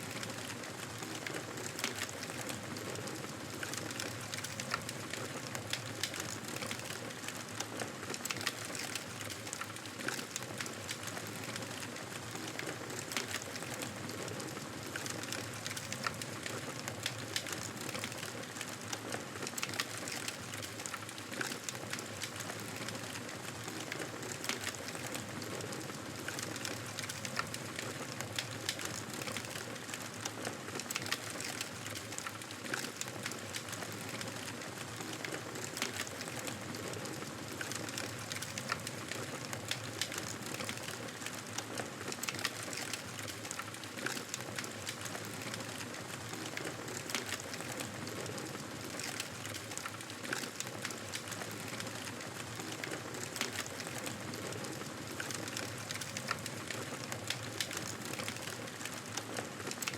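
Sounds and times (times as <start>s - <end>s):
wood fire crackling: 0.1s - 59.9s.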